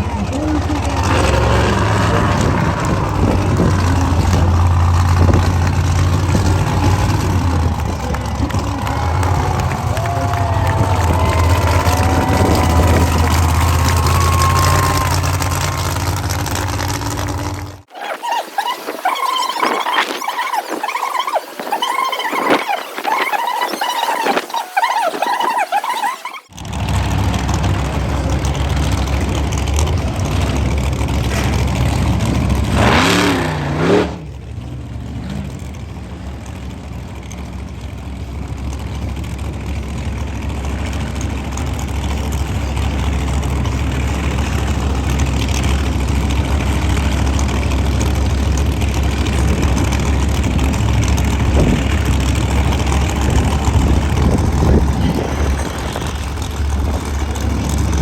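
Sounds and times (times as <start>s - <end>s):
monster truck engine rumbling: 0.0s - 58.0s.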